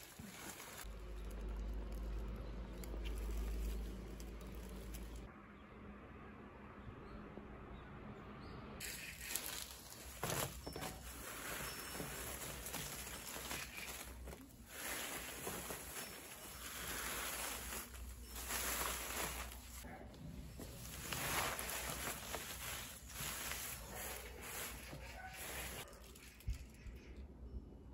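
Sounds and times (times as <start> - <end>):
tea leaves rustling: 0.0 - 5.3, 8.8 - 26.8.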